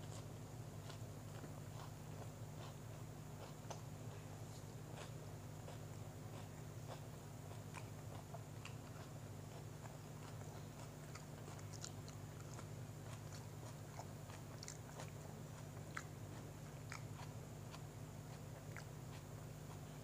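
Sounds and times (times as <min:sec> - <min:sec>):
low background hum: 0:00.0 - 0:20.0
person chewing: 0:00.0 - 0:20.0.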